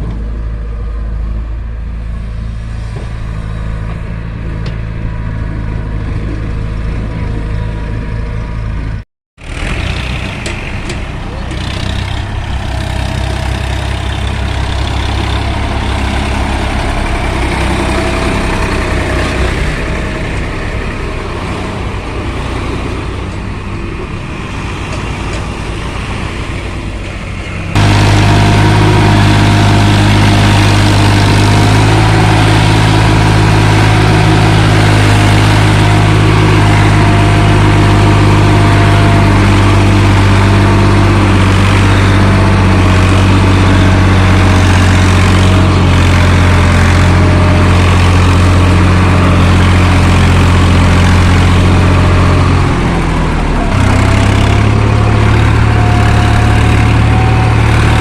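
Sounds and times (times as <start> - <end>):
diesel tractor engine running: 0.0 - 58.0
low engine drone: 0.0 - 58.0.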